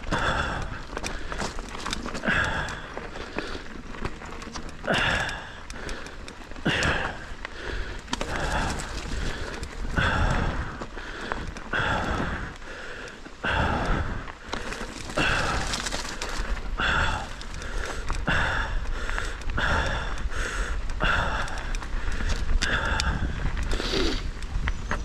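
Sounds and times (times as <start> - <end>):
person breathing hard: 0.0 - 4.1, 4.8 - 24.4
bike rolling on dirt trail: 0.0 - 25.0.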